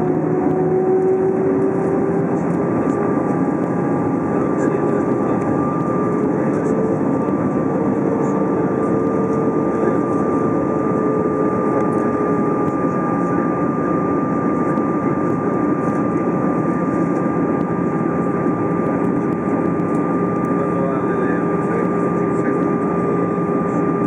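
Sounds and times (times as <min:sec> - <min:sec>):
airflow rush and engine hum: 0:00.0 - 0:24.0.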